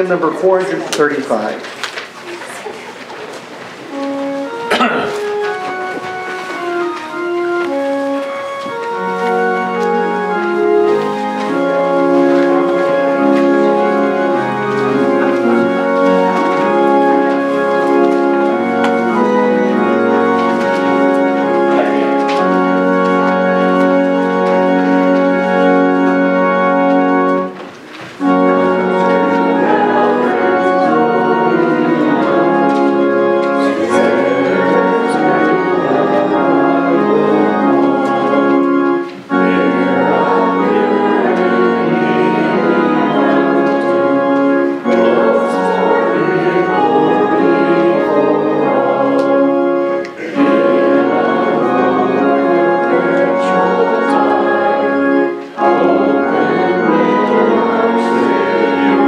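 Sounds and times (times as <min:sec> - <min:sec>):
church organ playing a hymn: 0:00.0 - 0:02.2, 0:03.4 - 0:59.0.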